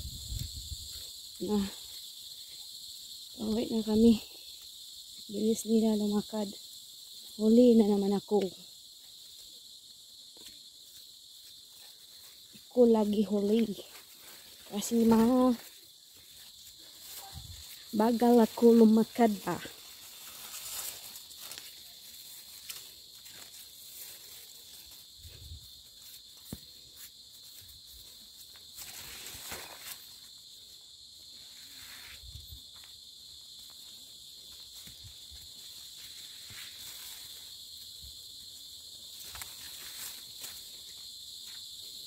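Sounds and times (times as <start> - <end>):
high-pitched insect drone: 0.0 - 42.0
rustle of leaves and undergrowth: 0.0 - 42.0
footsteps on forest path: 8.2 - 42.0.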